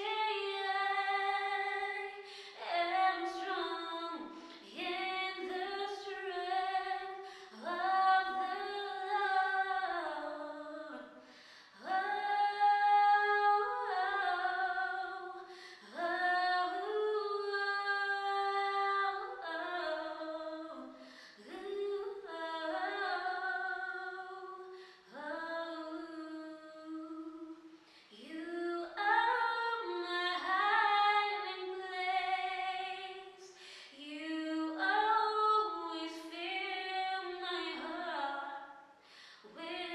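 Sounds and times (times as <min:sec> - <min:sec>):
woman singing unaccompanied: 0:00.0 - 0:11.2, 0:11.8 - 0:38.7, 0:39.4 - 0:39.9.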